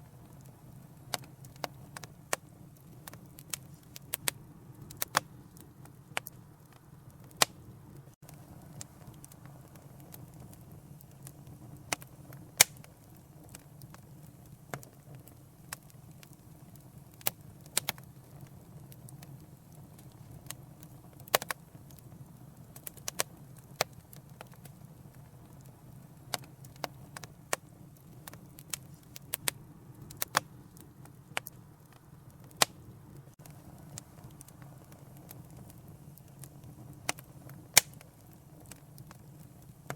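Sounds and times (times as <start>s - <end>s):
fire pops and snaps: 0.0s - 39.9s
low rumble of flames: 0.0s - 39.9s.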